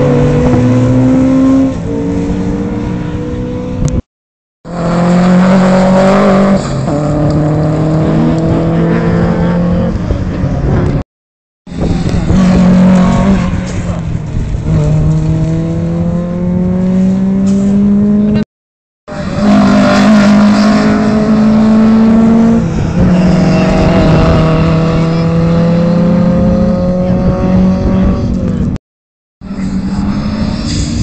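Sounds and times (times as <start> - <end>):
rally car engine at full throttle: 0.0 - 4.0, 4.7 - 11.0, 11.7 - 18.4, 19.1 - 28.8, 29.4 - 31.0.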